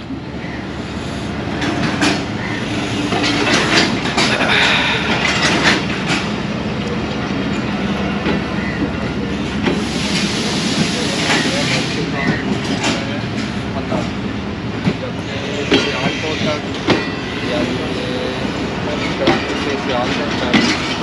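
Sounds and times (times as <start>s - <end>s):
train wheels clattering over rail joints: 1.4s - 21.0s.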